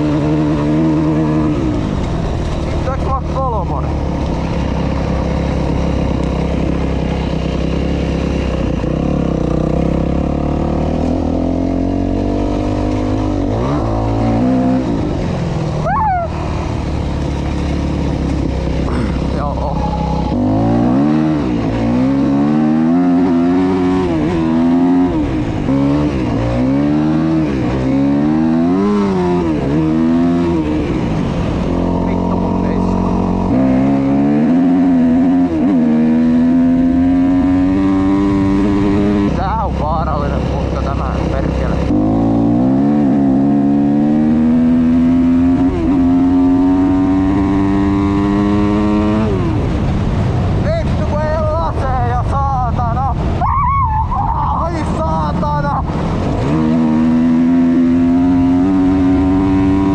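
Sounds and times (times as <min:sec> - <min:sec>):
motocross bike engine revving: 0:00.0 - 0:50.0, 0:54.4 - 0:59.9.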